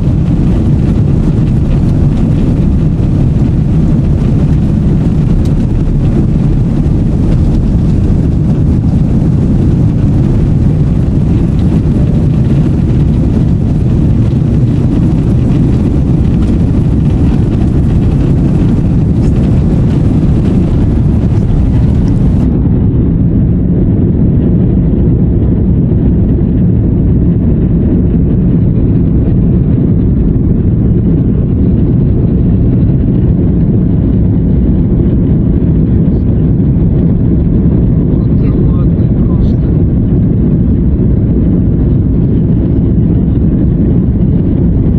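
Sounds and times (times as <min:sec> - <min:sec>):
jet airliner cabin rumble: 0:00.0 - 0:44.9.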